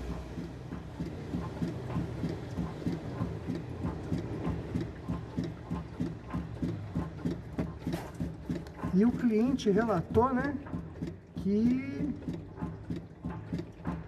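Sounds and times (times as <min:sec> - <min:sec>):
car suspension bushing knocking: 0:00.0 - 0:14.0.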